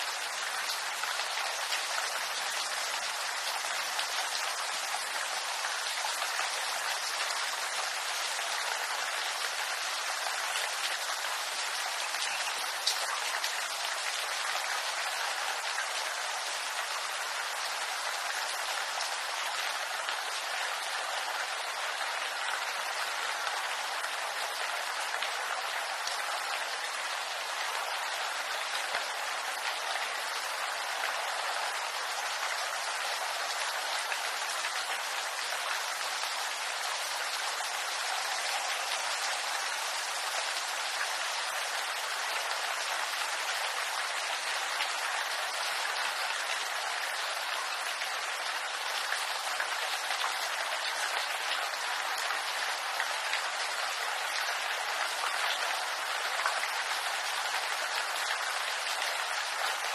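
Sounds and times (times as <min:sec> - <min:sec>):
rain pattering on foliage: 0:00.0 - 0:59.9.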